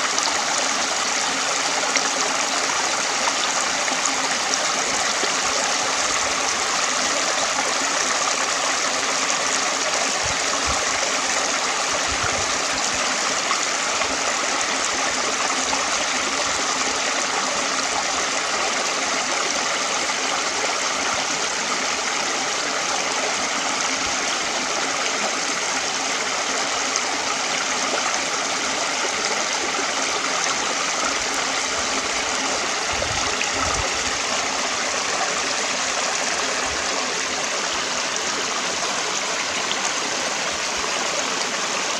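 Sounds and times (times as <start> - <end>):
water flowing over rocks: 0.0 - 41.9.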